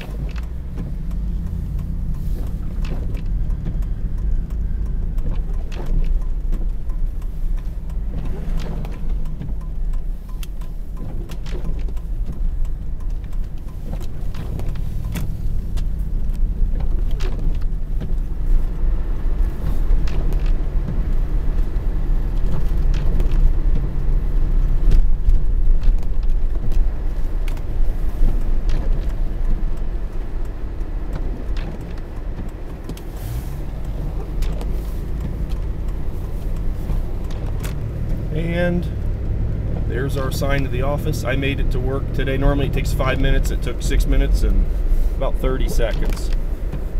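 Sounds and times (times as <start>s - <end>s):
car engine and tyres rumbling: 0.0s - 46.9s.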